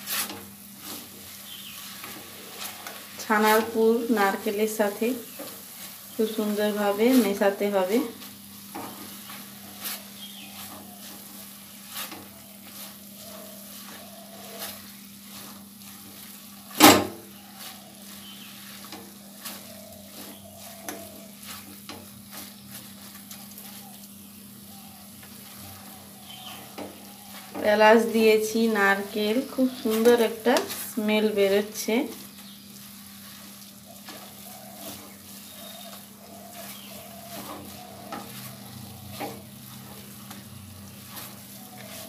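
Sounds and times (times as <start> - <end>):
soft sizzle: 0.0 - 42.0
spatula scraping a pan: 0.0 - 42.0.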